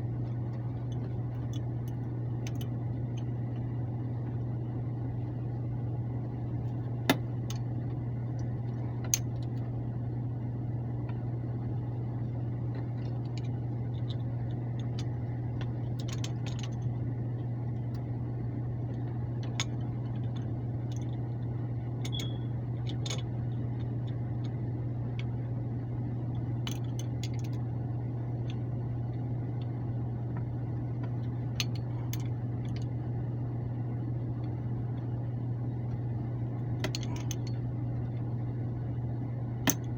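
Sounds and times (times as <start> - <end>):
blower humming: 0.0 - 39.9.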